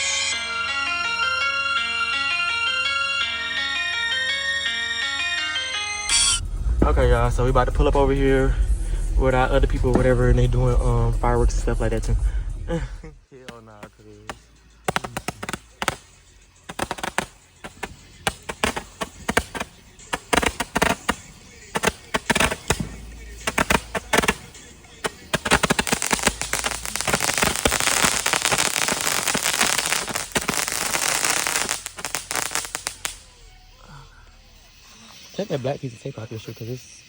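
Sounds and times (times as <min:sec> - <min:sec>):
firecrackers popping: 0:06.1 - 0:35.8.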